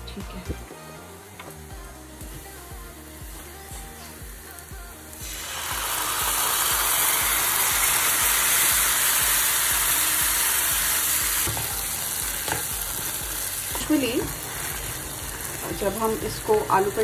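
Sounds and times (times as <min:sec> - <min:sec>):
beans sizzling in hot pan: 0:00.6 - 0:17.0.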